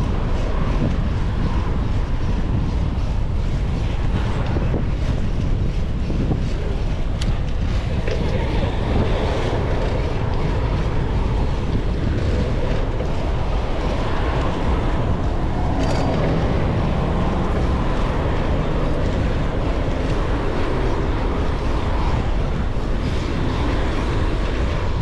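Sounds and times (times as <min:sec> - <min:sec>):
passing cars: 0:00.0 - 0:25.0
wind on microphone: 0:00.0 - 0:25.0.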